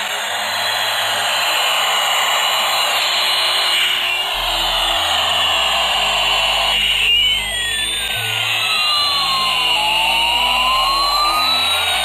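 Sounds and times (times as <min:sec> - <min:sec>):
toy airliner electronic jet sound: 0:00.0 - 0:12.0.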